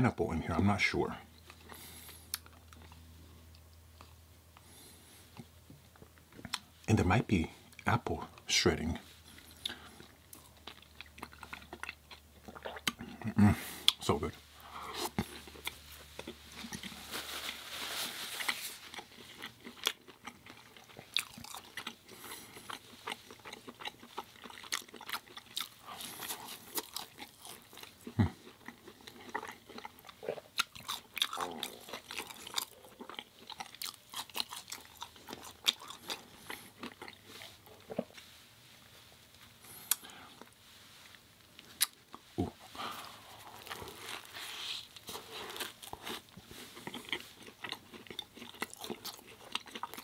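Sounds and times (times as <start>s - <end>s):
person chewing crunchy food: 1.3s - 6.7s, 9.1s - 38.2s, 39.4s - 50.0s.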